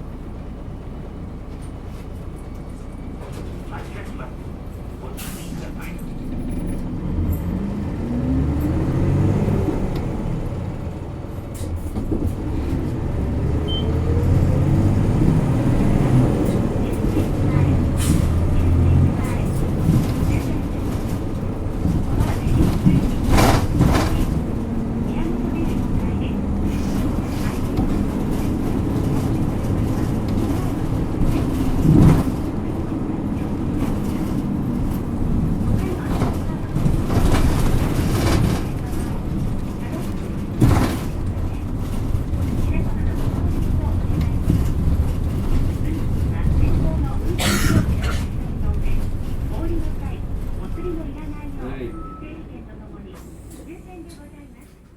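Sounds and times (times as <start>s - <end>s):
bus diesel engine accelerating: 0.0s - 54.9s.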